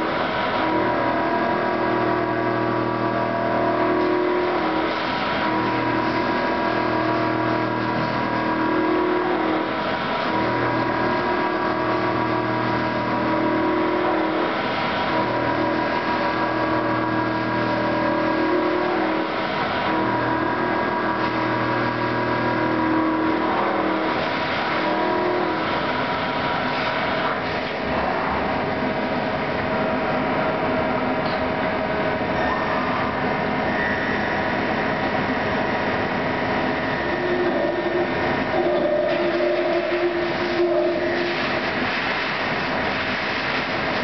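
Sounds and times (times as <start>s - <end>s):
low cutting drone: 0.0s - 30.2s, 31.2s - 44.0s
machine hum: 0.0s - 44.0s.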